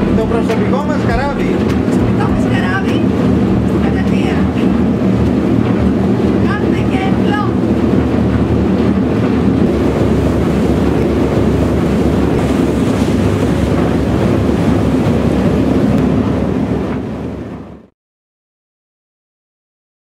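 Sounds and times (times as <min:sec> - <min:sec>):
rushing water: 0:00.0 - 0:17.8
boat engine rumble: 0:00.0 - 0:17.9
wind buffeting microphone: 0:00.0 - 0:17.9.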